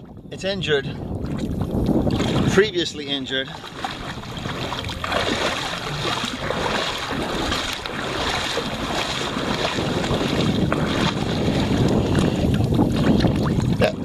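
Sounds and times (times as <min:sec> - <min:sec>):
wind buffeting microphone: 0:00.0 - 0:14.0
shallow water sloshing and splashing: 0:00.9 - 0:14.0.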